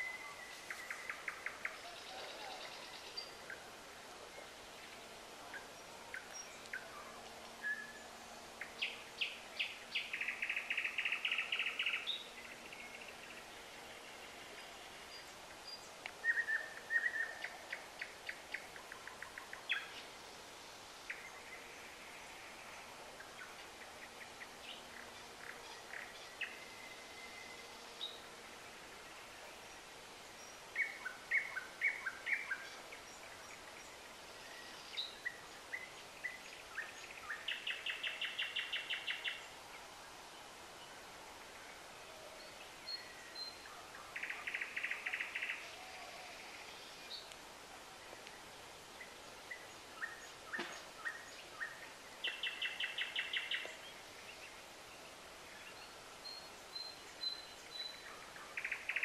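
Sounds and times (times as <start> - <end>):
songbird trilling song: 0.0 - 3.7, 4.3 - 20.1, 23.2 - 28.3, 29.7 - 39.5, 42.2 - 47.4, 48.0 - 59.0.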